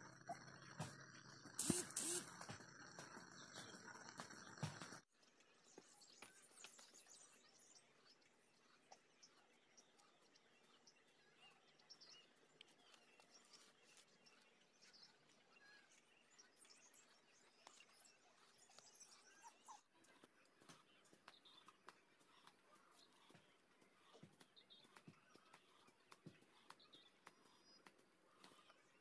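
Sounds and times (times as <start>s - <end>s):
faint chirps and ticks: 0.0s - 29.0s.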